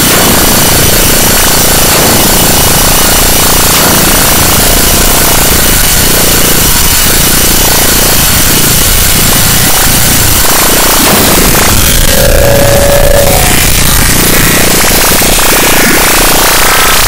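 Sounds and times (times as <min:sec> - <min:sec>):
harsh distorted noise music: 0:00.0 - 0:17.0.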